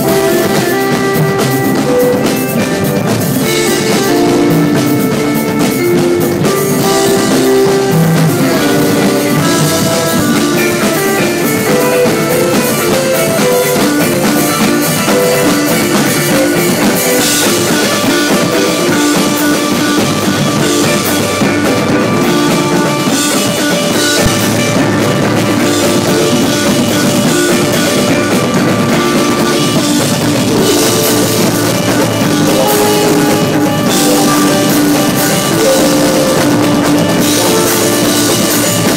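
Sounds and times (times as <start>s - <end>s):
drum kit: 0.0s - 38.9s
keyboard riff of quick notes: 0.0s - 38.9s
live rock band playing: 0.0s - 38.9s.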